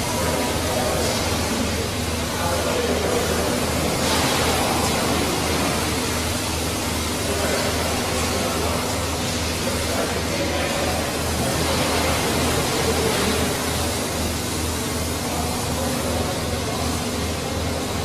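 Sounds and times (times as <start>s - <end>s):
low regular pulsing: 0.0s - 18.0s.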